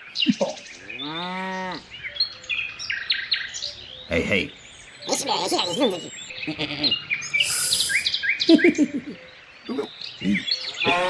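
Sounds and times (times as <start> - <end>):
birds chirping: 0.0 - 11.0
low falling animal calls: 0.2 - 11.0.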